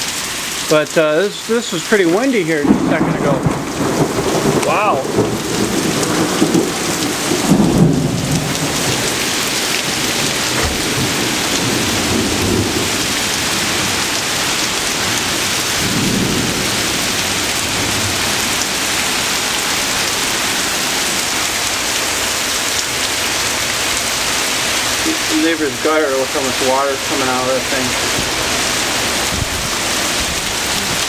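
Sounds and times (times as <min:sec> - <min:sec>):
heavy rain pouring: 0:00.0 - 0:31.0
thunder rumbling: 0:02.5 - 0:22.2, 0:22.9 - 0:31.0.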